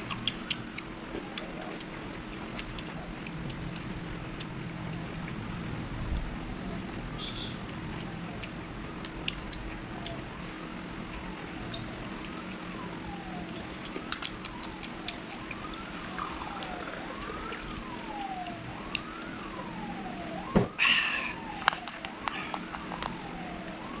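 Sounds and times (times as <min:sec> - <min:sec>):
faint siren wailing: 0:00.0 - 0:24.0.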